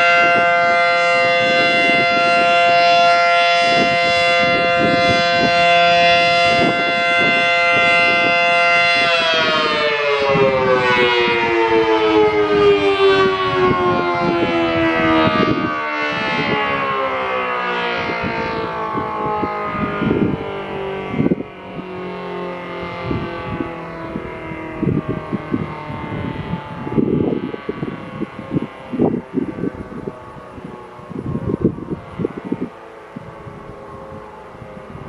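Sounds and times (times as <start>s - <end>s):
warning siren winding down: 0.0s - 35.0s.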